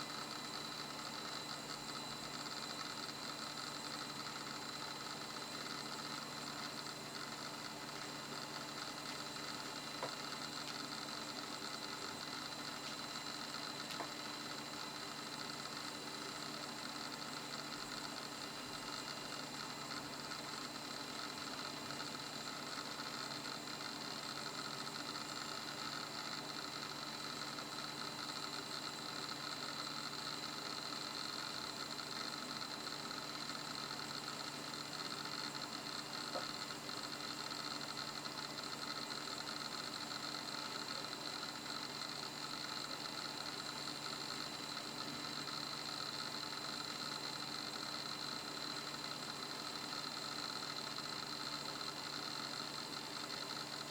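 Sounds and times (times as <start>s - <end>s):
faint hard disk tick: 0.0s - 53.9s
hard disk drive whine: 0.0s - 53.9s.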